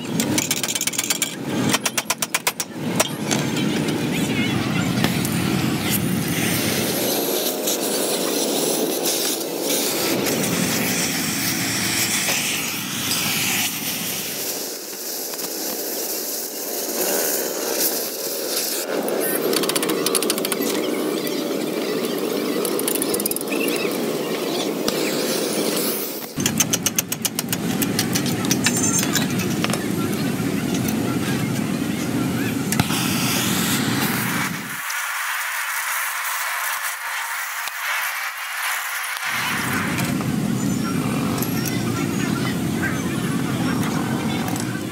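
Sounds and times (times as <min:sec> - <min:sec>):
cutting torch hissing: 0:03.4 - 0:26.7, 0:27.3 - 0:44.9.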